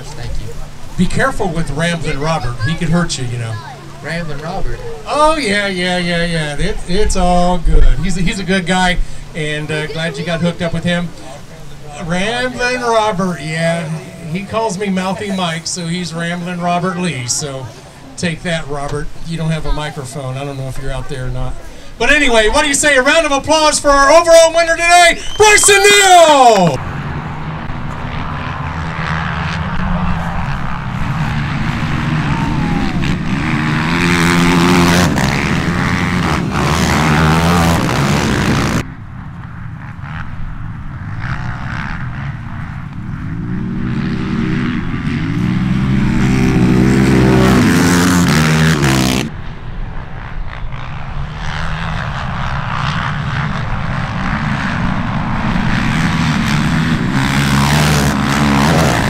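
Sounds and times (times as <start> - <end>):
racing atv engines revving: 0.0 - 59.0.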